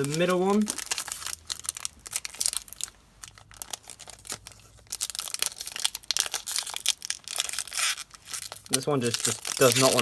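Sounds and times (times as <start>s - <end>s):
foil pack crinkling: 0.0s - 10.0s.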